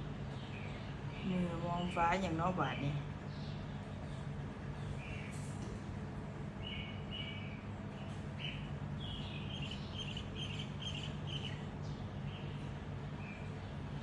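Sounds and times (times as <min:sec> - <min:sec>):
steady low hum: 0:00.0 - 0:14.0
small birds chirping: 0:00.2 - 0:05.8, 0:06.5 - 0:14.0.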